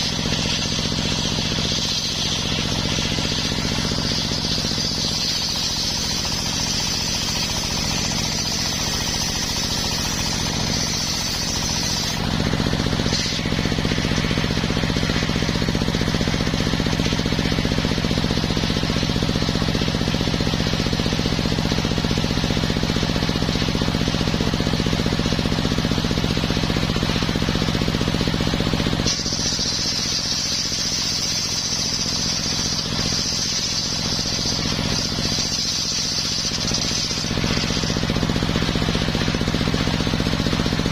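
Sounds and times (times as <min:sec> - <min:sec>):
sawmill sawing wood: 0:00.0 - 0:23.0, 0:26.2 - 0:40.9.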